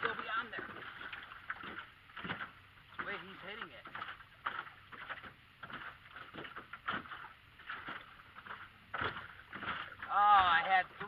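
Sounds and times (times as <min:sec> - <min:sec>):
water slapping boat hull: 0:00.0 - 0:11.0.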